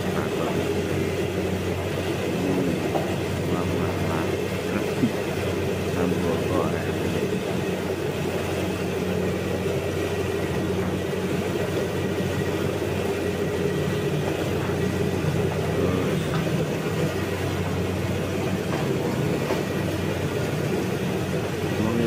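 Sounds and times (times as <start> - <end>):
combine harvester droning: 0.0 - 22.0.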